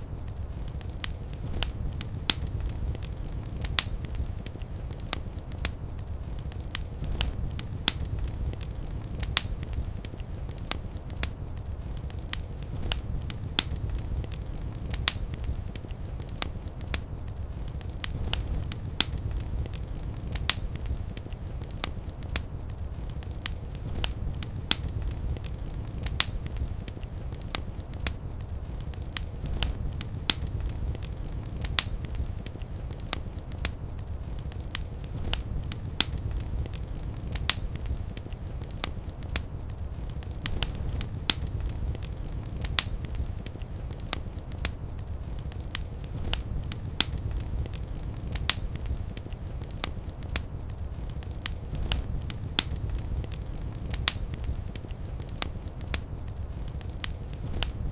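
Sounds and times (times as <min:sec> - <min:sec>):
fire flames rumbling: 0:00.0 - 0:57.9
wood fire pops and snaps: 0:00.0 - 0:57.9.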